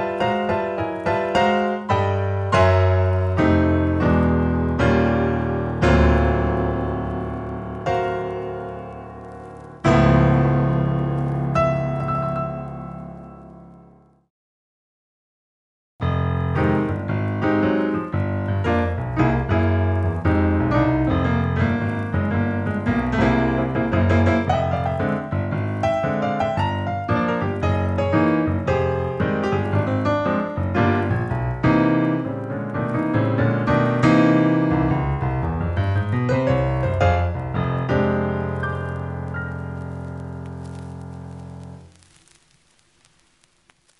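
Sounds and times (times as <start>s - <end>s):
fast piano music: 0.0s - 14.2s, 16.0s - 42.1s.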